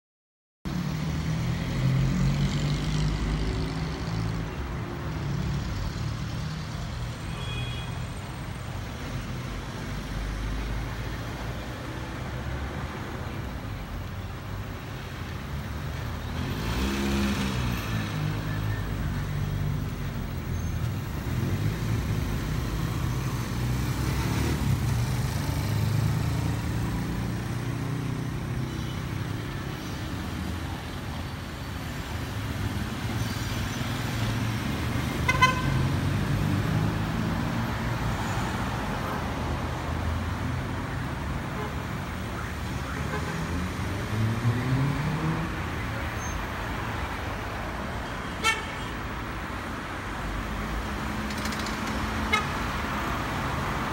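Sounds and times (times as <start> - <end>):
street traffic rumbling: 0.7 - 53.9.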